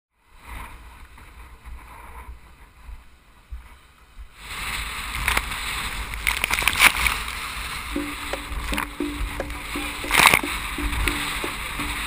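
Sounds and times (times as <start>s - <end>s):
rush of wind and water: 0.2s - 12.0s
wind buffeting microphone: 0.2s - 12.0s.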